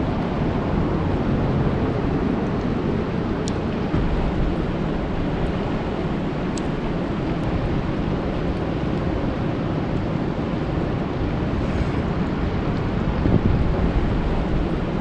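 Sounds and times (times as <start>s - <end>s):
rain falling on a lake: 0.0s - 15.0s.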